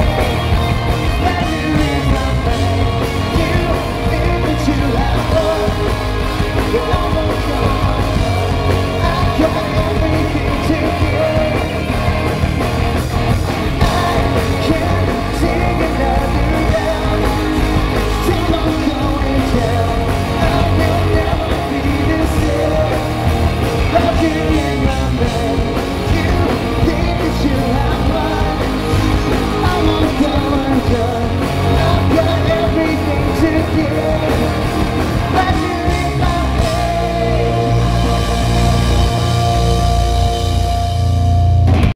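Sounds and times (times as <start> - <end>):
man singing lead: 0.0 - 41.0
drum kit: 0.0 - 41.9
electric guitars: 0.0 - 41.9.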